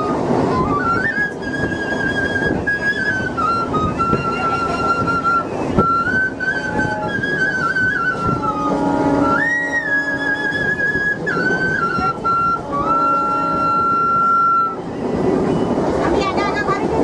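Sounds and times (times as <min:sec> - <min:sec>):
bamboo flute melody: 0:00.0 - 0:16.2
moving train rumble: 0:00.0 - 0:17.0.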